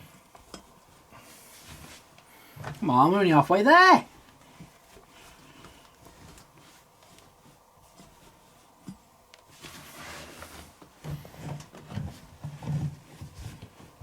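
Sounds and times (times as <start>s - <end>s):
fabric rustling: 0.0s - 14.0s.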